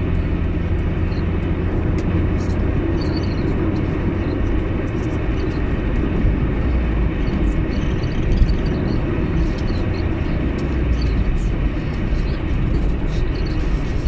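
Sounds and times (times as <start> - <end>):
car tyres and engine rumble: 0.0 - 14.0.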